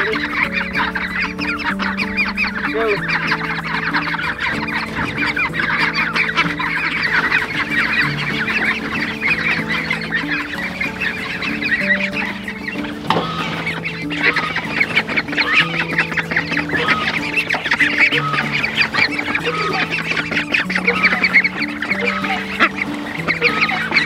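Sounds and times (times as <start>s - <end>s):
background music with low notes: 0.0s - 24.0s
ducklings peeping: 0.0s - 24.0s.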